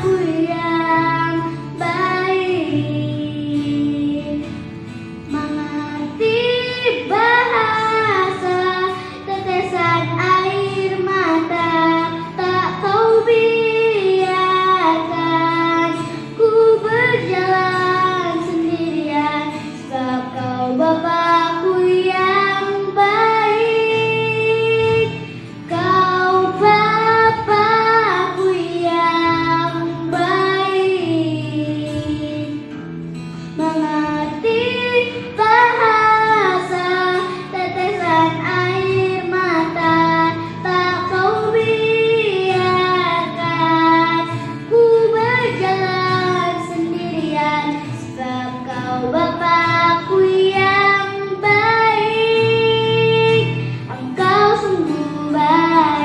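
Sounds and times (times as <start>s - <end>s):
girl singing into microphone: 0.0s - 56.0s.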